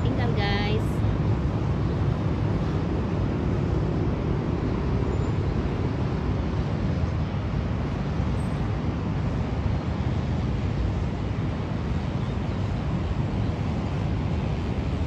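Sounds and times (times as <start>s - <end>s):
distant city traffic rumble: 0.0s - 15.0s.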